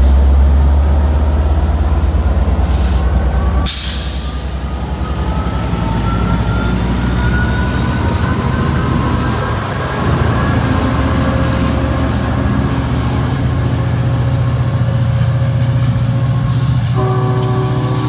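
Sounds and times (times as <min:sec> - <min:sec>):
locomotive engine humming: 0:00.0 - 0:18.0.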